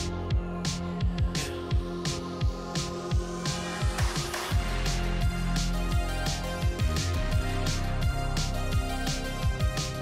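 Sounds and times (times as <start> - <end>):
pop music with drum beat: 0.0 - 10.0.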